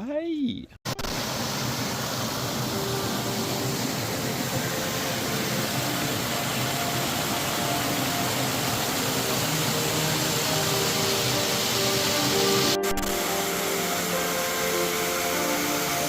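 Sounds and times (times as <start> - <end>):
steady rushing noise: 0.9 - 16.0.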